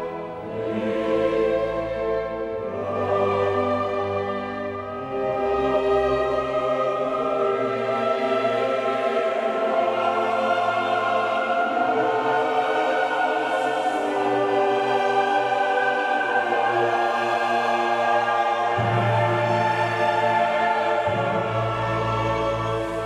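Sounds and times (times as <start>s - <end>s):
choir singing held chords: 0.0s - 23.0s
orchestra playing: 0.0s - 23.0s.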